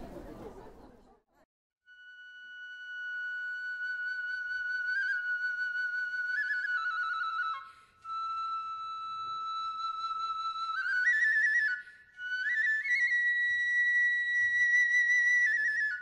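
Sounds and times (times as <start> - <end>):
bamboo flute with trills: 1.9 - 16.0.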